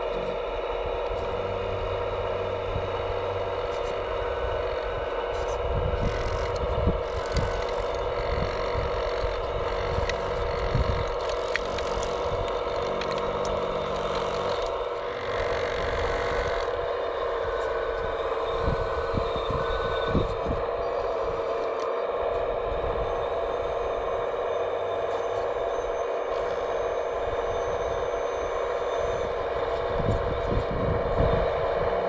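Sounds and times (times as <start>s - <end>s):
motor and hydraulic pump whine: 0.0s - 32.0s.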